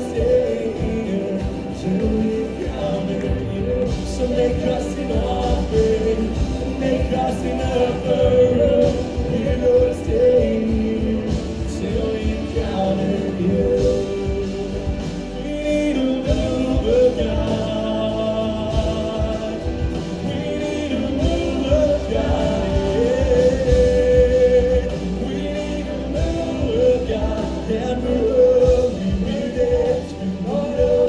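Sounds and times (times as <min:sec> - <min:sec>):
band playing worship song: 0:00.0 - 0:31.0
person singing: 0:00.0 - 0:31.0.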